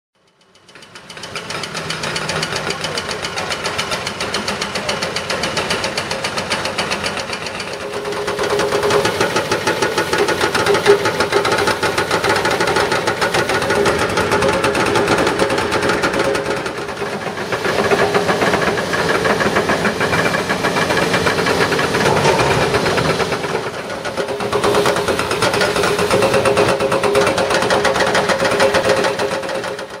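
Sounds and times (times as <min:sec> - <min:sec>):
hydraulic breakers pounding concrete: 0:01.0 - 0:30.0.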